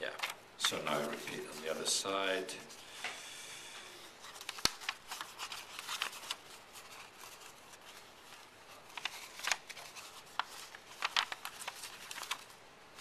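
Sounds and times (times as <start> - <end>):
paper crinkling while folded: 0.2 - 2.0, 4.2 - 13.0.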